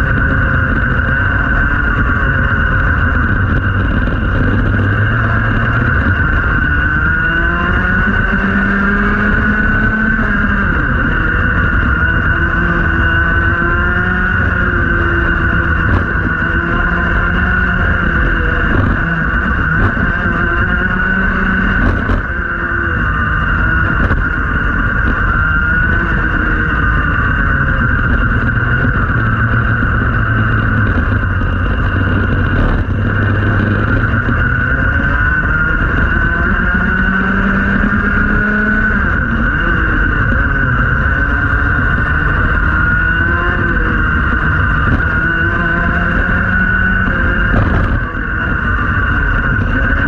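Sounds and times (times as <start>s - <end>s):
kart engine revving: 0.0s - 50.0s.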